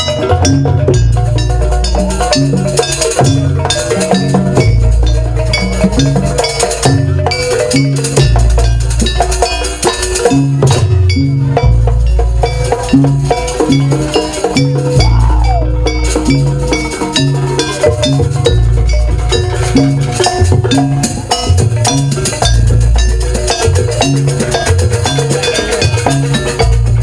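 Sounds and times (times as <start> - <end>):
gamelan gongs and percussion: 0.0 - 27.0.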